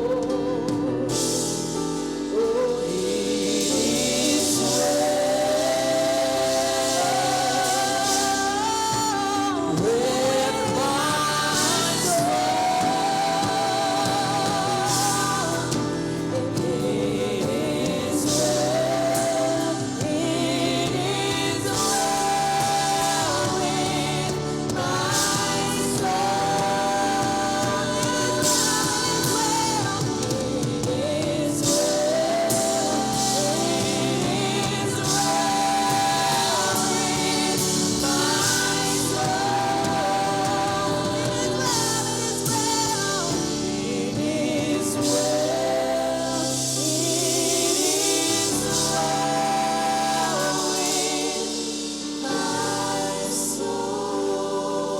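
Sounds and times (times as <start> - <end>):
group singing gospel: 0.0 - 54.9
musical accompaniment: 0.0 - 54.9.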